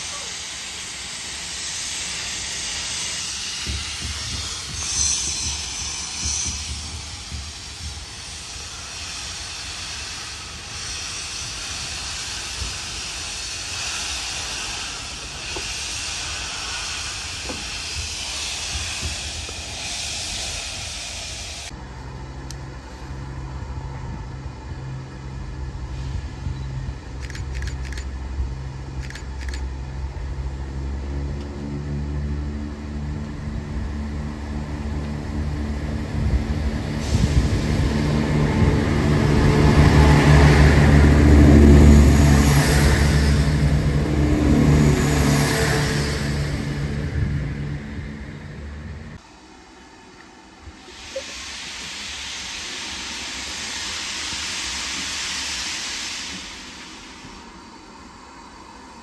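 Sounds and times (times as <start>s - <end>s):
steam hissing: 0.0s - 21.8s, 22.8s - 59.0s
wheels rumbling on rails: 0.0s - 52.0s
diesel train engine hum: 0.0s - 59.0s.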